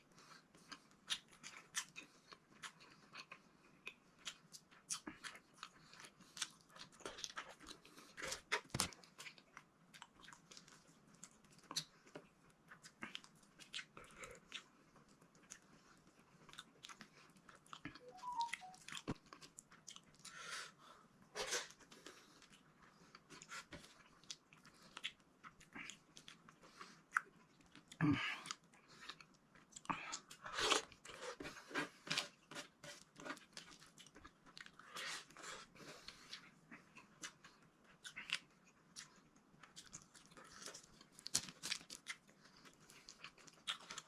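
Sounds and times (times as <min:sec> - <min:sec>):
person chewing vegetables: 0:00.0 - 0:44.0.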